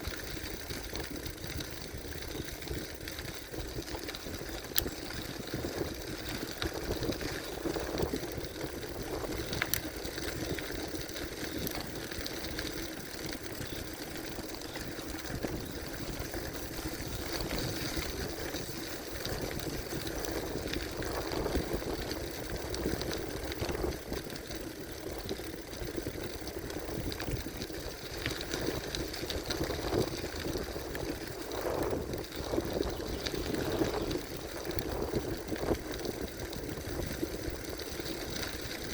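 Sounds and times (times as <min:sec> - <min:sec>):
bicycle tyres rolling on gravel: 0:00.0 - 0:38.9
sharp clicks and rattles: 0:00.0 - 0:38.9.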